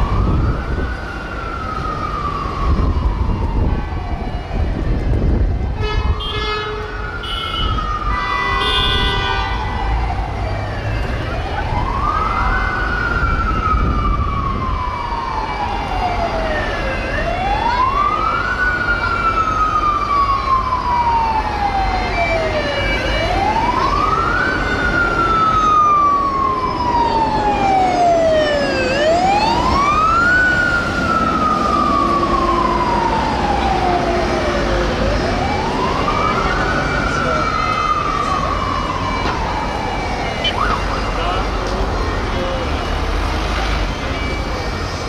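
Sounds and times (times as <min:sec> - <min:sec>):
city traffic noise: 0:00.0 - 0:45.0
emergency siren wailing: 0:00.0 - 0:45.0.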